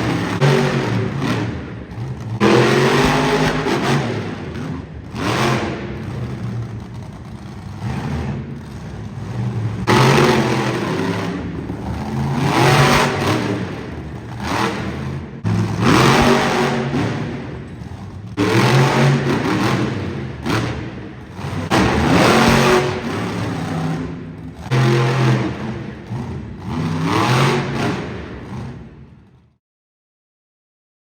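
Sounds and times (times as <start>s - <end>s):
truck engine revving: 0.0s - 29.4s.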